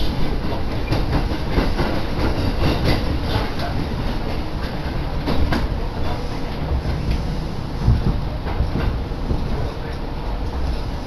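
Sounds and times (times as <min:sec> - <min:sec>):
train wheels clacking on track: 0:00.0 - 0:11.0.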